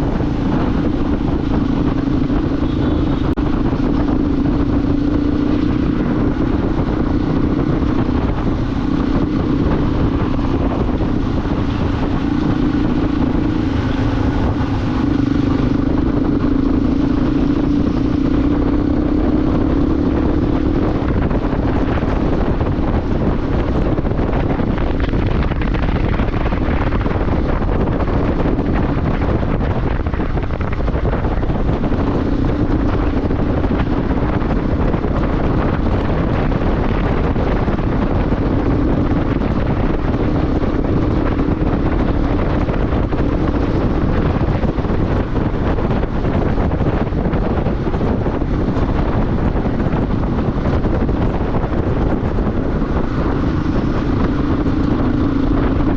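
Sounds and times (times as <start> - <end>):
motorcycle engine droning: 0.0 - 55.9
wind noise on microphone: 0.0 - 55.9.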